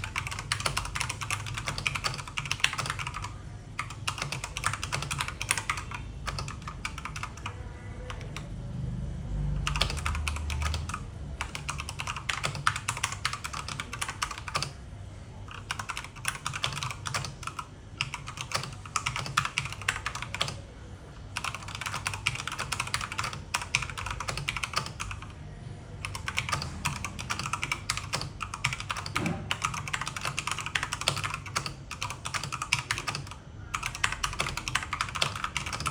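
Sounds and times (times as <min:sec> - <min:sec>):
mechanical keyboard typing: 0:00.0 - 0:08.5, 0:09.5 - 0:14.8, 0:15.5 - 0:25.4, 0:26.0 - 0:35.9.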